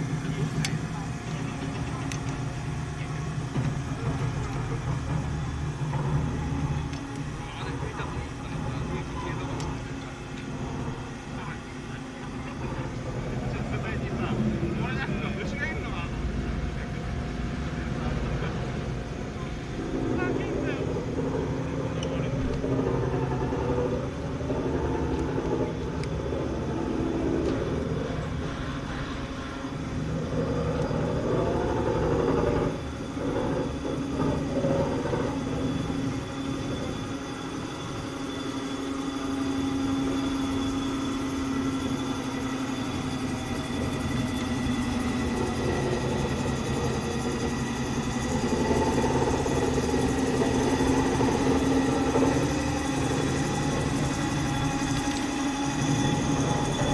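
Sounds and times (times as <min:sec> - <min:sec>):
faint whining tones: 0:00.0 - 0:56.9
turntable mechanical hum: 0:00.0 - 0:56.9.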